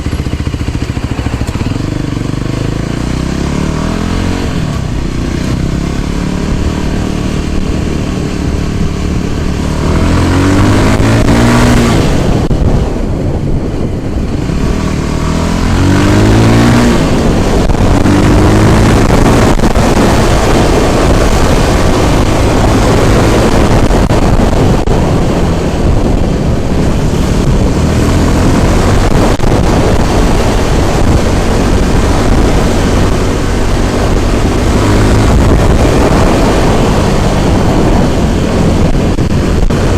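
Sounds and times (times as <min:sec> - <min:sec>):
scooter engine revving: 0:00.0 - 0:39.9
wind buffeting microphone: 0:00.0 - 0:39.9.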